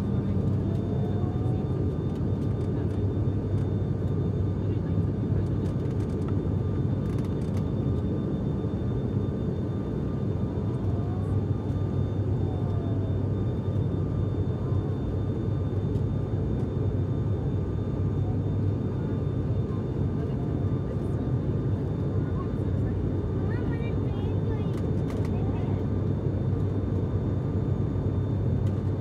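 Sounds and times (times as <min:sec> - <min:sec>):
turboprop engine drone in cabin: 0:00.0 - 0:29.0.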